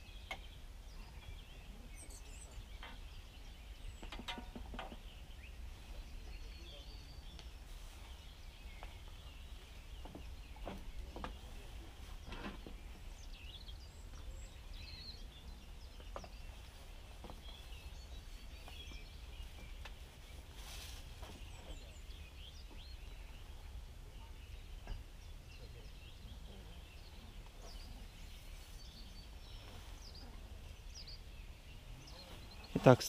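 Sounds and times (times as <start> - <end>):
distant birdsong: 0.0 - 33.0.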